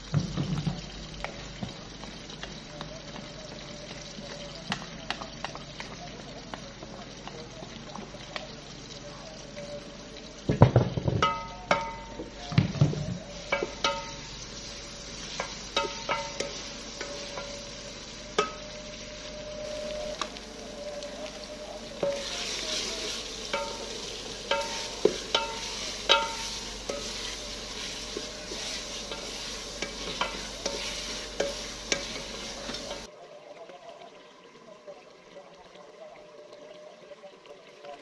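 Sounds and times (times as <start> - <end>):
frying sizzle: 0.0 - 33.8.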